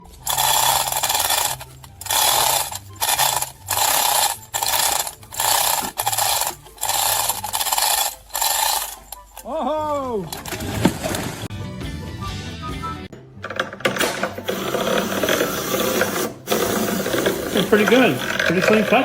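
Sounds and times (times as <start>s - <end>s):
rhythmic scraping strokes: 0.0s - 11.5s, 13.9s - 19.0s.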